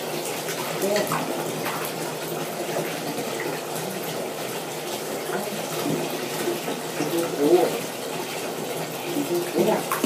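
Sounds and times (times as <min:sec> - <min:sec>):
water splashing in bathtub: 0:00.0 - 0:10.0.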